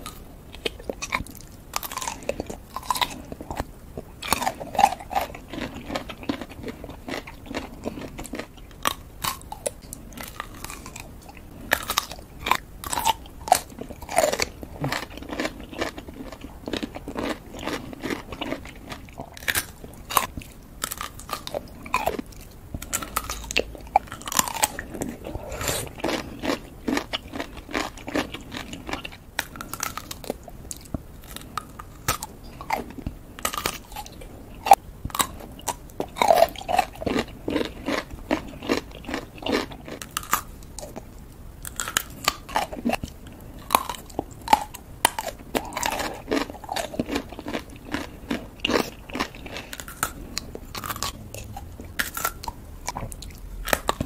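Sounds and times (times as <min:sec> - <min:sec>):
pickles crunching and chewing: 0:00.0 - 0:54.0.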